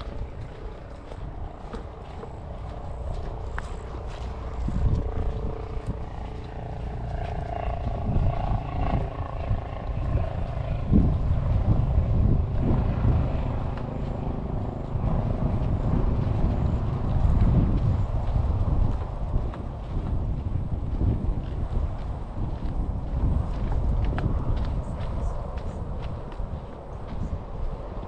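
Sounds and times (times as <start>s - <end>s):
faint steady drone: 0.0s - 28.0s
wind buffeting microphone: 0.0s - 28.0s.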